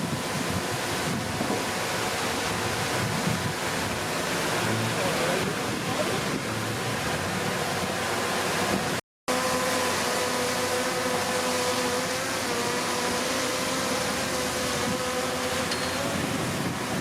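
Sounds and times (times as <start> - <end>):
wind on microphone: 0.0 - 9.0, 11.8 - 17.0.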